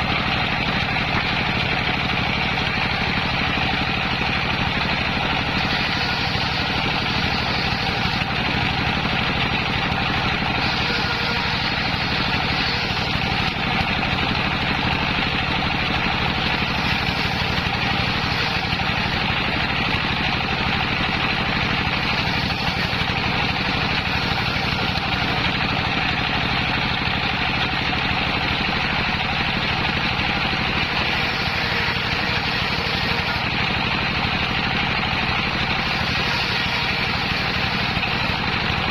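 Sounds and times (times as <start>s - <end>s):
circular saw droning: 0.0s - 38.9s.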